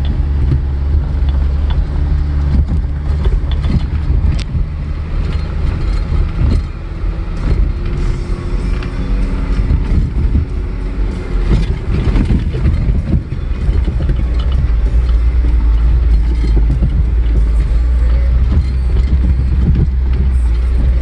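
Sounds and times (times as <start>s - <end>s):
off-road vehicle engine rumble: 0.0s - 21.0s
vehicle knocks and rattles: 0.0s - 21.0s.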